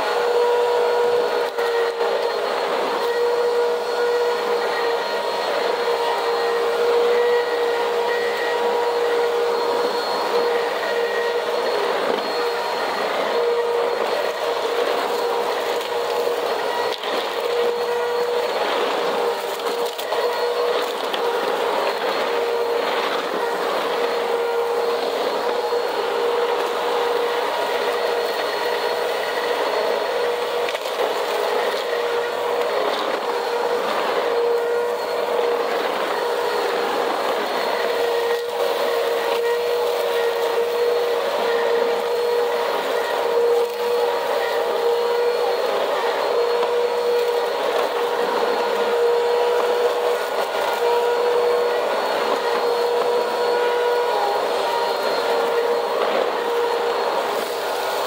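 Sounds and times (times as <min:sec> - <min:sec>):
vacuum cleaner whine: 0:00.0 - 0:58.0.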